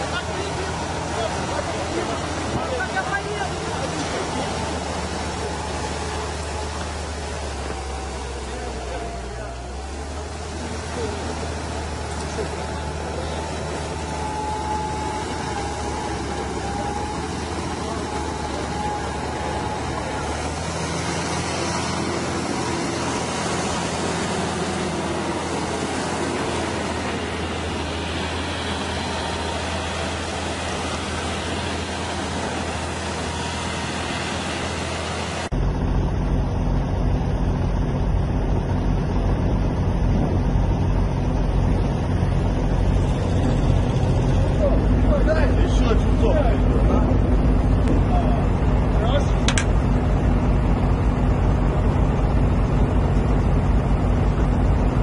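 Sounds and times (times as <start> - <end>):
deep loud engine: 0.0 - 55.0
engines humming: 0.0 - 55.0.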